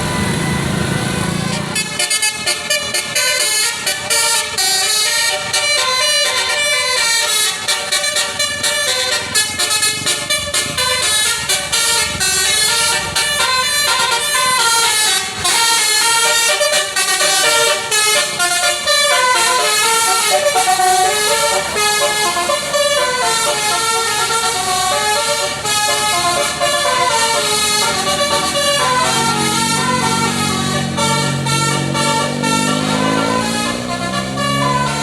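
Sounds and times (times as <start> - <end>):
bus musical air horn melody: 0.0 - 35.0.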